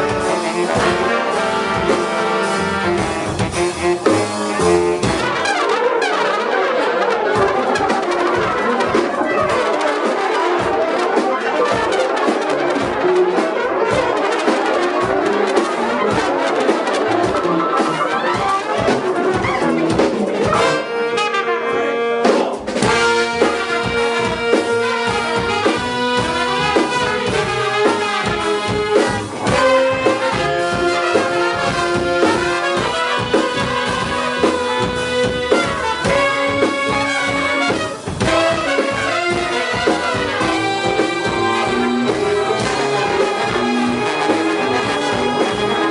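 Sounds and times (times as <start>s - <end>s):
brass ensemble playing free jazz: 0.0s - 45.9s.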